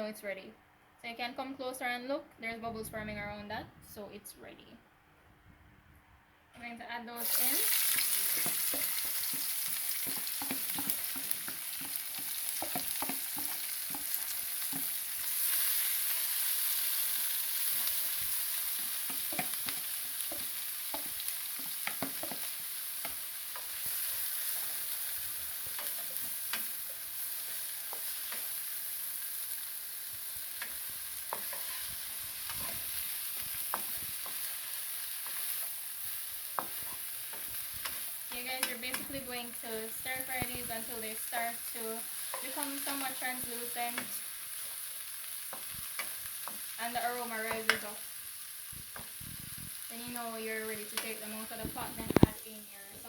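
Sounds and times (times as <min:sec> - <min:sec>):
onions sizzling in hot oil: 0:07.2 - 0:53.0.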